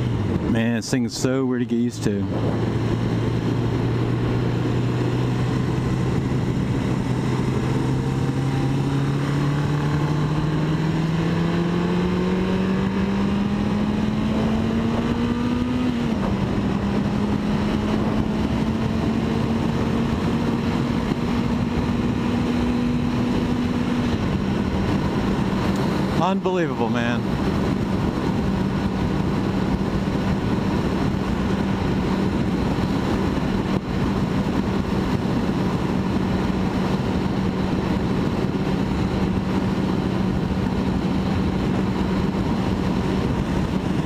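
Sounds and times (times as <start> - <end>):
motorcycle engine accelerating: 0.0 - 0.7, 2.1 - 44.0
wind rushing past helmet: 2.1 - 44.0.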